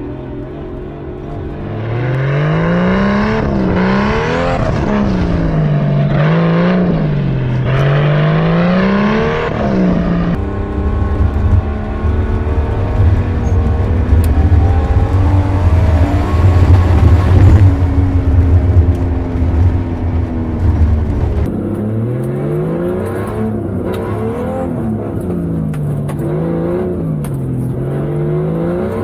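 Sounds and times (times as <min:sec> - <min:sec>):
car engine revving: 0:00.0 - 0:29.0
deep engine rumble: 0:00.0 - 0:29.0.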